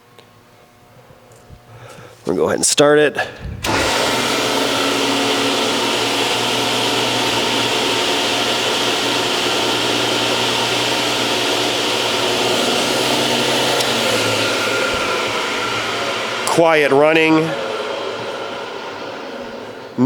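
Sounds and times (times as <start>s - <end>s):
table saw whirring: 3.6s - 20.0s.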